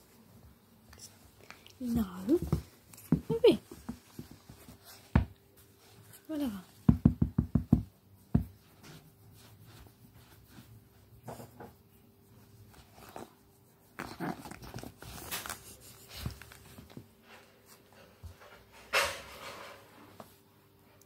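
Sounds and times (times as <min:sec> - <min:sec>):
puppy scuffling and rustling: 0:00.0 - 0:06.9, 0:07.8 - 0:21.0.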